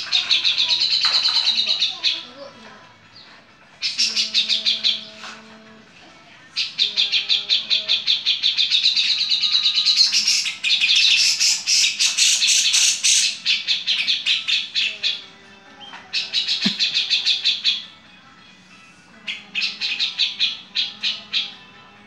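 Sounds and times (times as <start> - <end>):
bird harsh chattering song: 0.0 - 2.4, 3.2 - 5.3, 6.5 - 18.0, 19.2 - 22.0.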